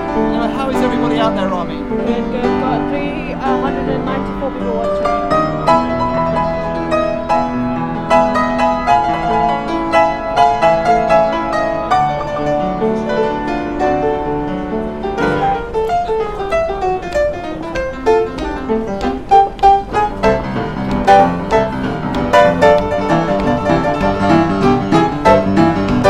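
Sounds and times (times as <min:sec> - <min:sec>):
upright piano playing: 0:00.0 - 0:26.0.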